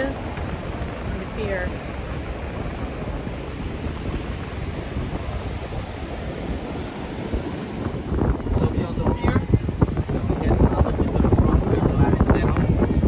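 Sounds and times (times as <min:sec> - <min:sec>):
ocean surf: 0:00.0 - 0:13.0
wind noise on microphone: 0:00.0 - 0:13.0.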